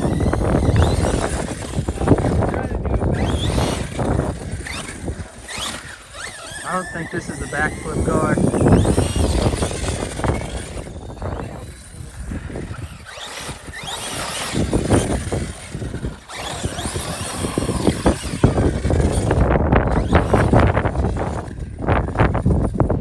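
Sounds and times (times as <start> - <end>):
electric motor whining: 0.0 - 23.0
scattered clatter: 0.0 - 23.0.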